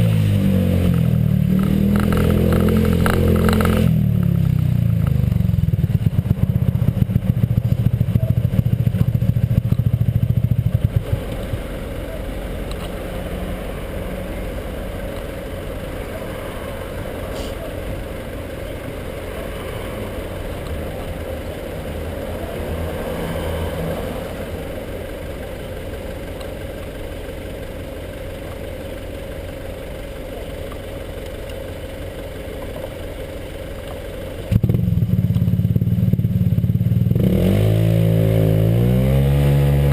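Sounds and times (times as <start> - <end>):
scooter engine running: 0.9 - 23.3, 24.1 - 39.9.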